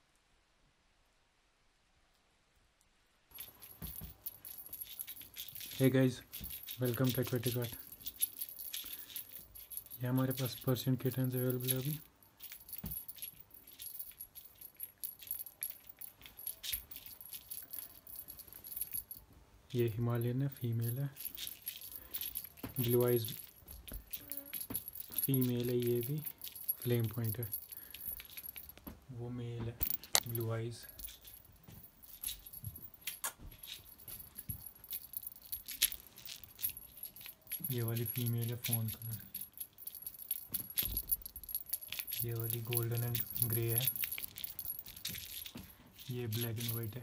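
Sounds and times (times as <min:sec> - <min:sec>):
jingling cat toy shaken: 0:03.3 - 0:19.2, 0:20.0 - 0:28.8, 0:29.8 - 0:47.0.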